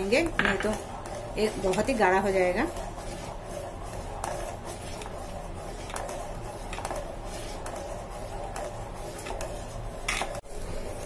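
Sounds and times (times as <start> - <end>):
metal spoon stirring in saucepan: 0.0 - 11.0
steady low hum: 0.0 - 11.0.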